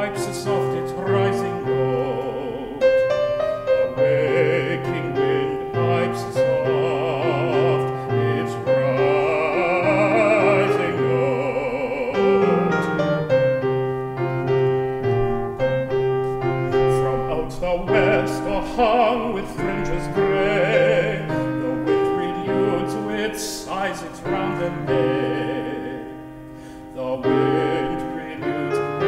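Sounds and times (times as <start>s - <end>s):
grand piano: 0.0s - 29.0s
man singing classical song: 0.0s - 29.0s.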